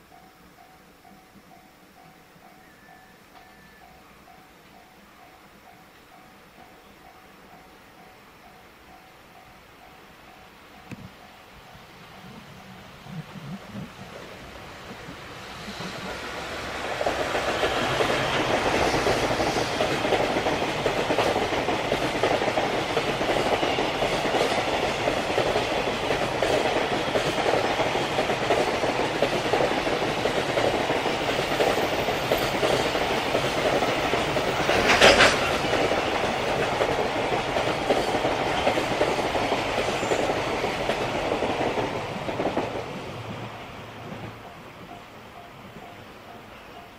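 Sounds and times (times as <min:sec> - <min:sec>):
train wheels rolling on rail: 0:00.0 - 0:46.9.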